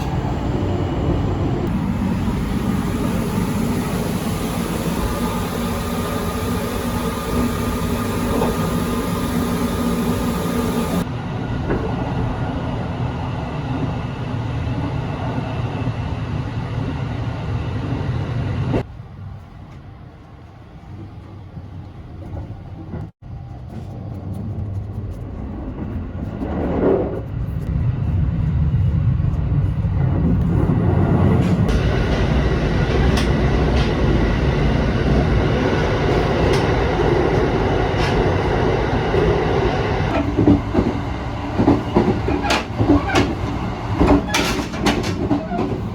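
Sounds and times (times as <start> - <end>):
train rumbling on rails: 0.0 - 45.9.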